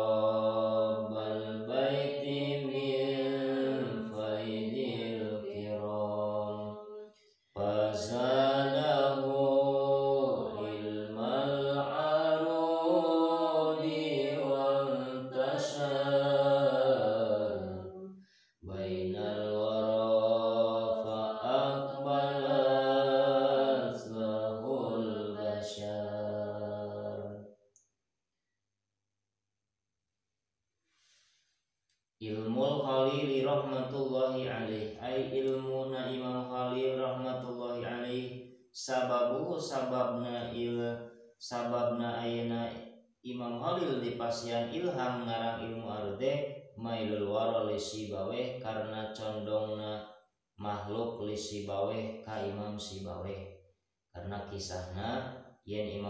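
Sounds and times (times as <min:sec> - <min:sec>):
man chanting melodically: 0:00.0 - 0:07.0, 0:07.6 - 0:18.0, 0:18.6 - 0:27.4, 0:32.2 - 0:50.0, 0:50.6 - 0:53.4, 0:54.2 - 0:56.0.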